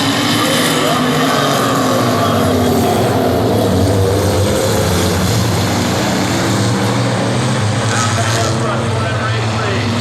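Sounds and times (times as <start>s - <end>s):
race car engines: 0.0s - 10.0s.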